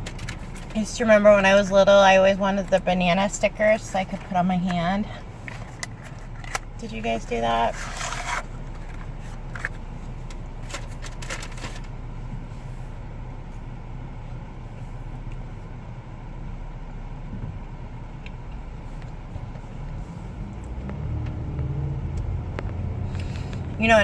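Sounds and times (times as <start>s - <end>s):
car cabin engine and road noise: 0.0s - 24.0s.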